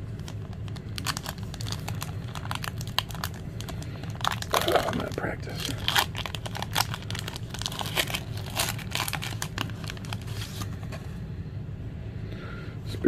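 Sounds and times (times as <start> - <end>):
foil wrapper crinkling: 0.1 - 10.9.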